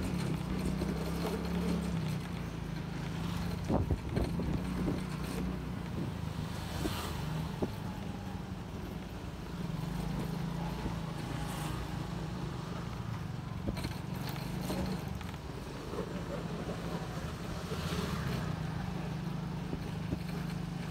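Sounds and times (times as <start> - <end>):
small motorcycle engine running: 0.0 - 20.9.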